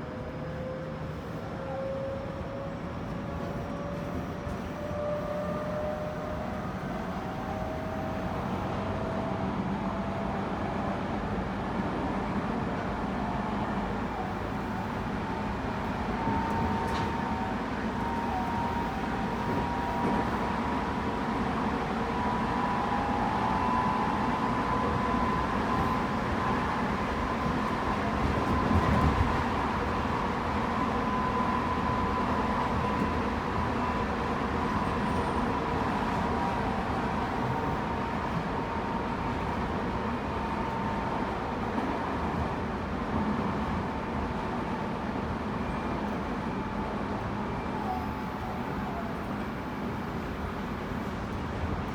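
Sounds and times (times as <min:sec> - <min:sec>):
electric train inverter whine: 0:00.0 - 0:51.9
wheels rumbling on rails: 0:00.0 - 0:51.9.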